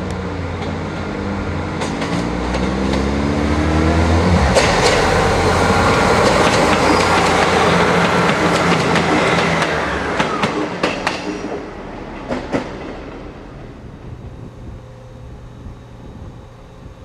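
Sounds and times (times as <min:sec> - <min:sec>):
train wheels clicking over rail joints: 0:00.0 - 0:16.0
train passing: 0:00.0 - 0:17.0.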